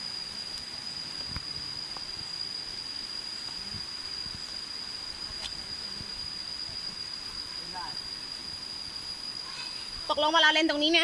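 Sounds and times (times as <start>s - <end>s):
even hiss: 0.0s - 11.0s
high-pitched insect drone: 0.0s - 11.0s.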